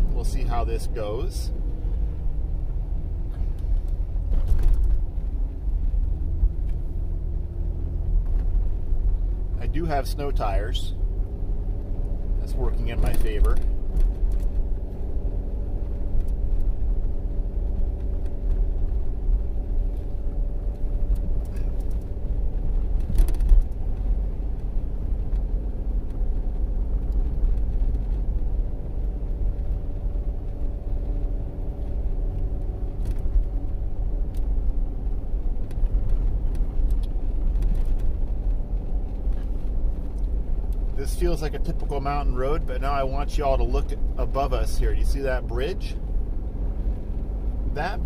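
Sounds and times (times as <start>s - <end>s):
road rumble: 0.0s - 48.0s
van engine running: 0.0s - 48.0s.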